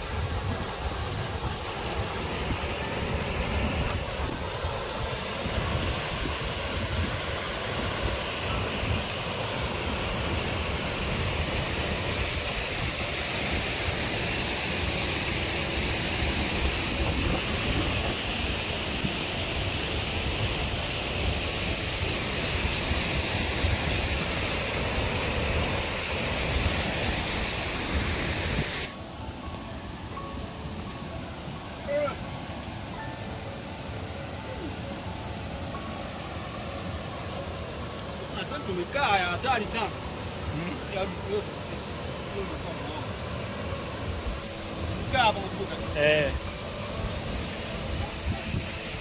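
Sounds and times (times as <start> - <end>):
water rushing over rapids: 0.0 - 49.0.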